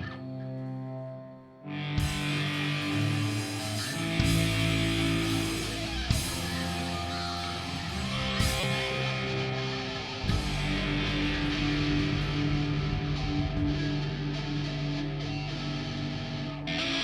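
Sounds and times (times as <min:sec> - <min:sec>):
distorted electric guitar chords: 0:00.0 - 0:17.0
rock band playing: 0:02.0 - 0:17.0.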